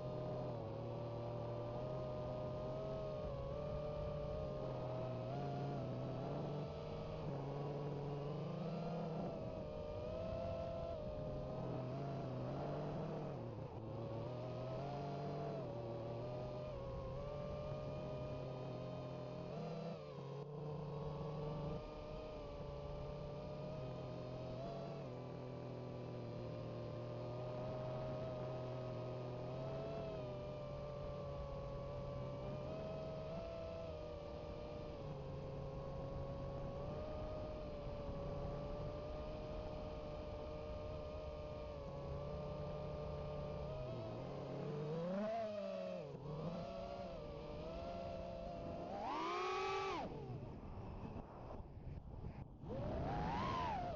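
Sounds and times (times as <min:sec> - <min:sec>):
drone motors whining: 0:00.0 - 0:53.9.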